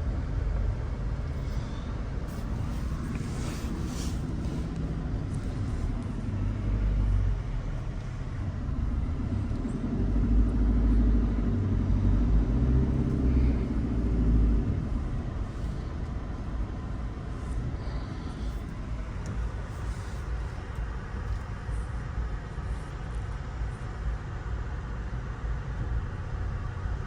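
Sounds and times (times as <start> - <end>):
car driving on road: 0.0 - 27.0.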